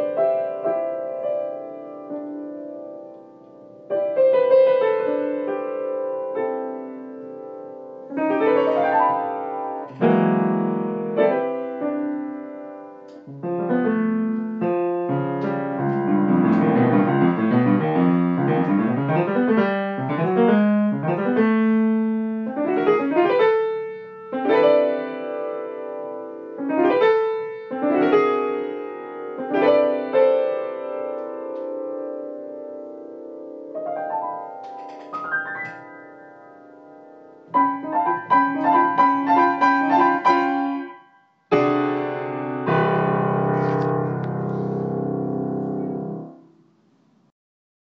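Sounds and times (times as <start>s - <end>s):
solo piano improvising: 0.0s - 47.3s.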